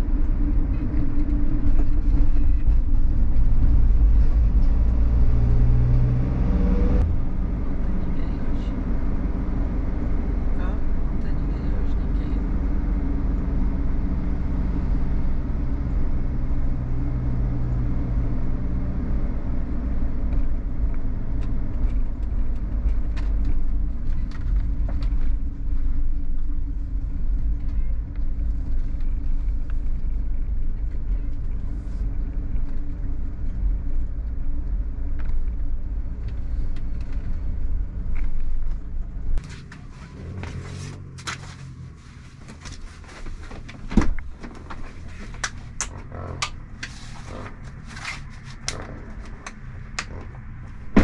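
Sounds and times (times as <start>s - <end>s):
engine and tyre rumble: 0.0s - 51.0s.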